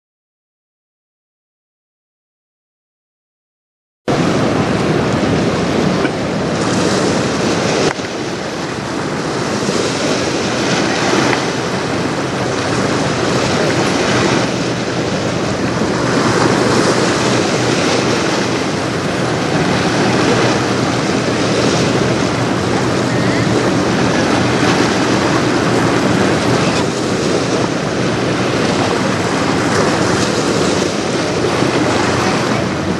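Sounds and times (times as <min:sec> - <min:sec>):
river water splashing: 0:04.1 - 0:32.9
wind buffeting microphone: 0:04.1 - 0:32.9.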